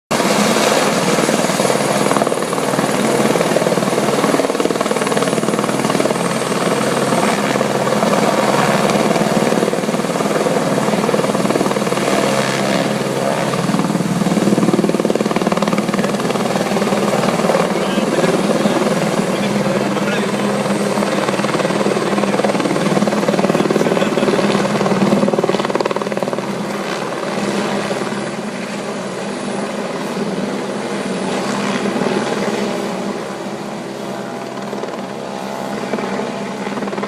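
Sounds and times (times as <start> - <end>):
helicopter running: 0.1 - 37.0.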